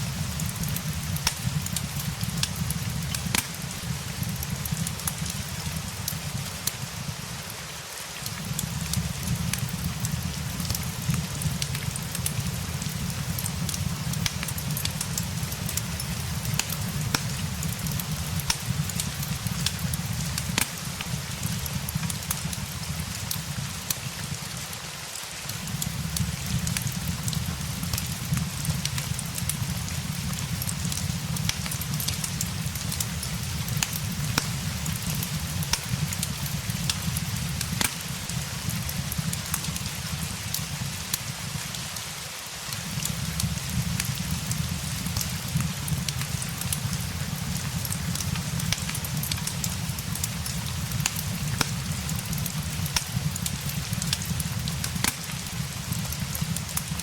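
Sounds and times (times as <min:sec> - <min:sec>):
fireplace crackling: 0:00.0 - 0:57.0
steady rain: 0:00.0 - 0:57.0.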